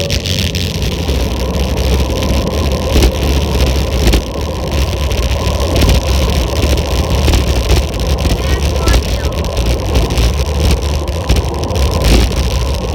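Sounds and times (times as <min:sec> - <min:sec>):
road noise: 0:00.0 - 0:12.9
wind rumble: 0:00.0 - 0:12.9.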